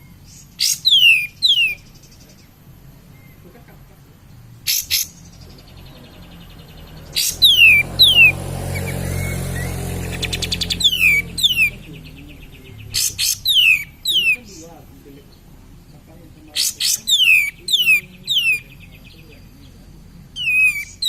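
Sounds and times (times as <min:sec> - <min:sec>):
bulbul whistling song: 0:00.0 - 0:03.5, 0:04.6 - 0:15.5, 0:16.6 - 0:21.0.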